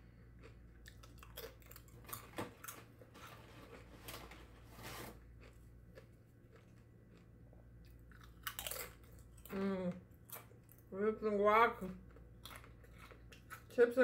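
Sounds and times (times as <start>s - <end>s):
person chewing: 0.0s - 4.1s, 5.2s - 10.9s, 12.0s - 13.8s
food crunching: 0.2s - 4.6s, 5.2s - 10.9s, 11.9s - 13.8s.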